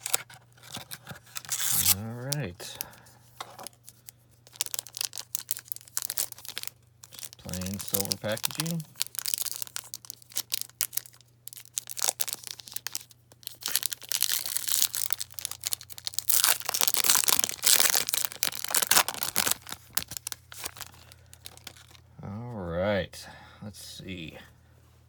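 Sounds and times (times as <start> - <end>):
foil wrapper crinkling and tearing: 0.0 - 2.9, 3.5 - 22.0.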